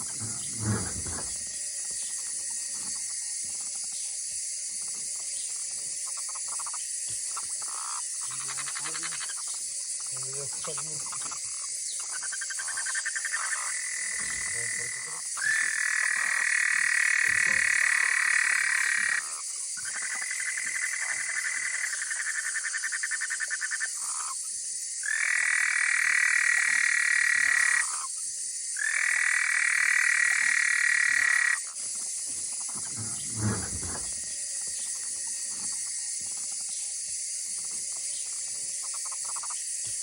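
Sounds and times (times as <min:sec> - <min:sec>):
high-pitched frog chorus: 0:00.0 - 0:04.2, 0:04.8 - 0:37.0, 0:37.6 - 0:39.7
frogs pulsed trills: 0:00.0 - 0:40.0.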